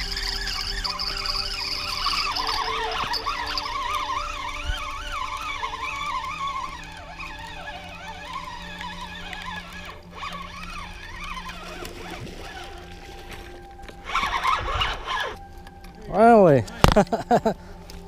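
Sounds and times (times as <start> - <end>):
fishing reel gears whining: 0.0 - 15.9.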